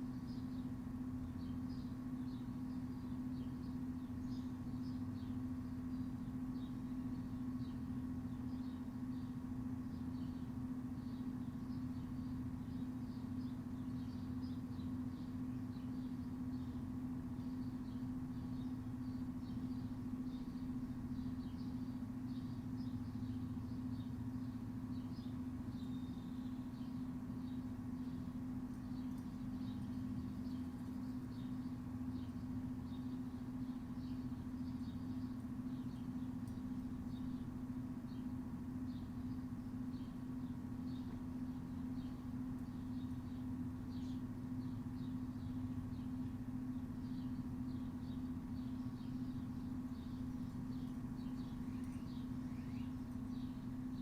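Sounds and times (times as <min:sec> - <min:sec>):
low hum with held tone: 0:00.0 - 0:54.0.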